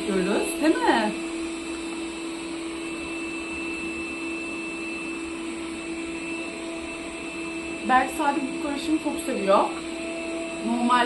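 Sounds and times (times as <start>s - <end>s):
machine hum: 0.0s - 11.0s
thin high whine: 0.0s - 11.0s.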